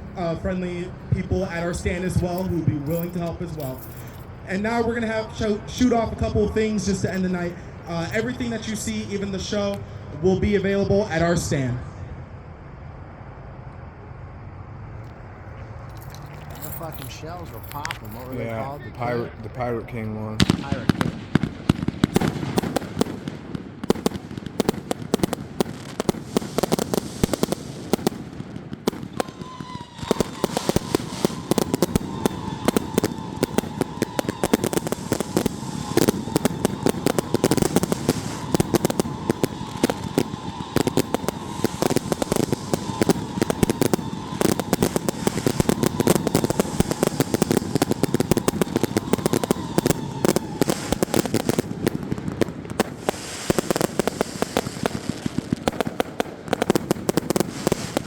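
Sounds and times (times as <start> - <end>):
fireworks popping and crackling: 0.0 - 11.8, 15.0 - 58.0.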